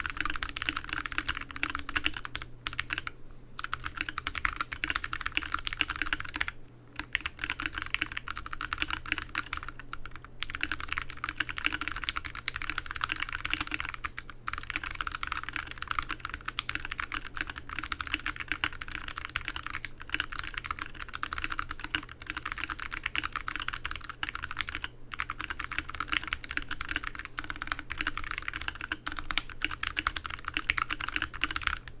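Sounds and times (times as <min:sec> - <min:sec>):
fast typing on mechanical keyboard: 0:00.0 - 0:32.0.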